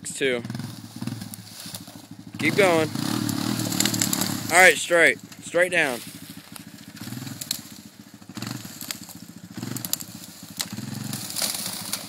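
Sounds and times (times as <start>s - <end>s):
atv engine revving: 0.0s - 12.0s
twigs crackling and snapping: 0.6s - 12.0s.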